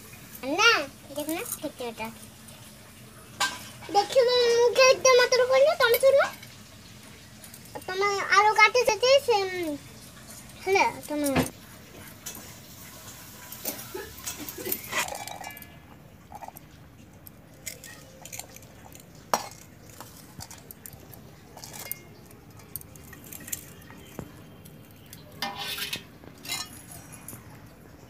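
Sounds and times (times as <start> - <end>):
steel bowls clinking: 3.4 - 28.0.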